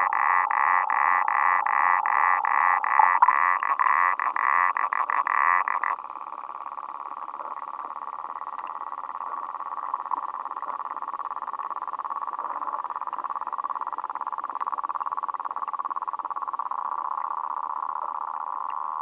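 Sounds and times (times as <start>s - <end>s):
frogs calling in chorus: 0.0s - 19.0s.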